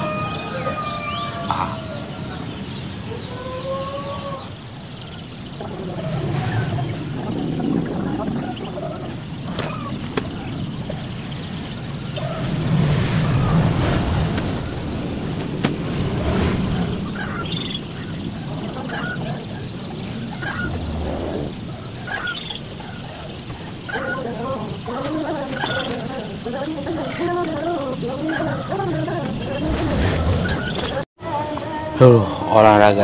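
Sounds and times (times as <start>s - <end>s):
poultry calling: 0.0s - 15.0s, 16.8s - 31.0s
steady outdoor rumble: 0.0s - 33.0s.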